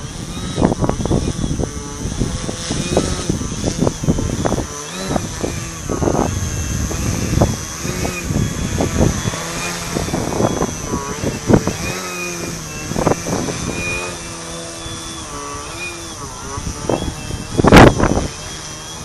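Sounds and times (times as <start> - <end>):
model plane engine droning: 0.0 - 19.0
wind buffeting microphone: 0.0 - 19.0.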